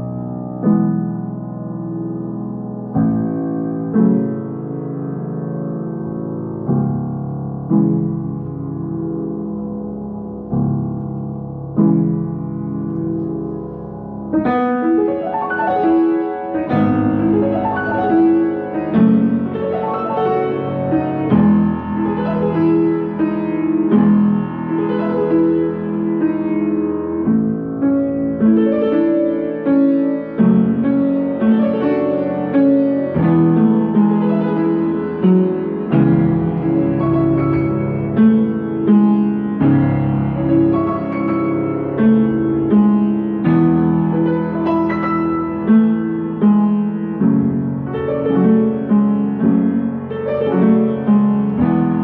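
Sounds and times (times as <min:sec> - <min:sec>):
solo piano music: 0:00.0 - 0:52.0.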